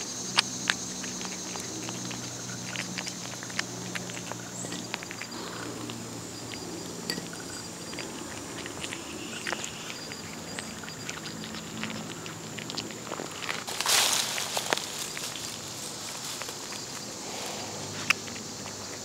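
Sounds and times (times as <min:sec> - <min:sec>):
cat licking and chewing: 0:00.0 - 0:19.0.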